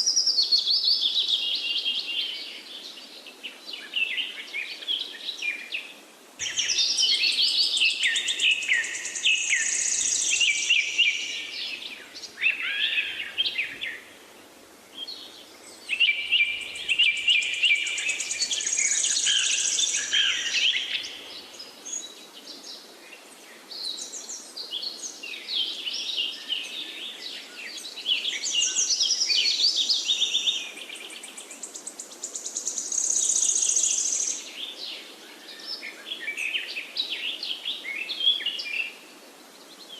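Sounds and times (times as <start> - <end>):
faint background hiss: 0.0 - 39.9
forest birds chirping: 0.0 - 39.9.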